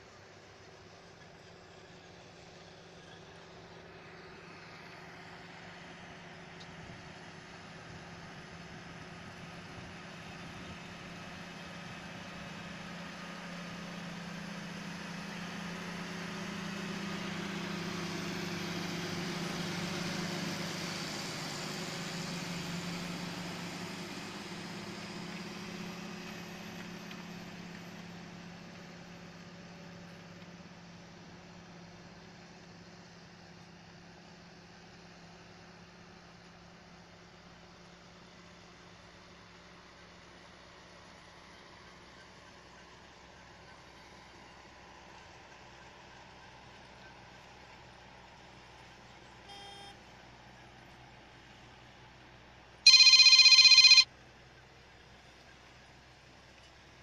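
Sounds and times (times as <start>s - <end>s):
tractor diesel engine hum: 0.0s - 54.0s.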